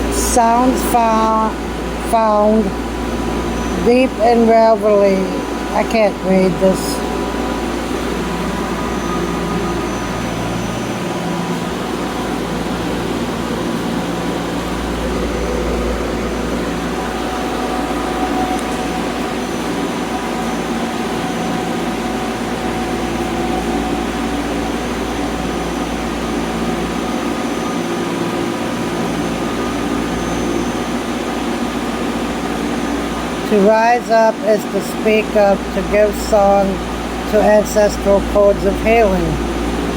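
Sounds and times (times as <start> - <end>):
air-handling machinery drone: 0.0 - 39.9.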